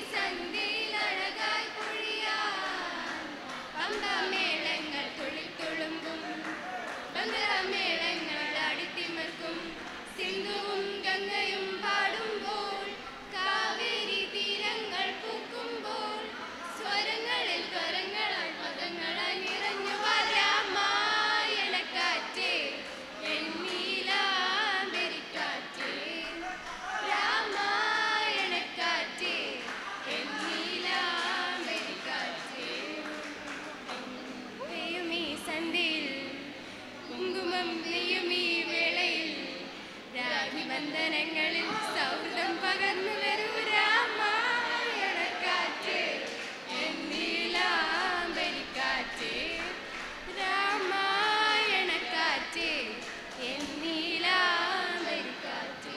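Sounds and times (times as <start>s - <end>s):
group singing into microphones: 0.0s - 55.9s.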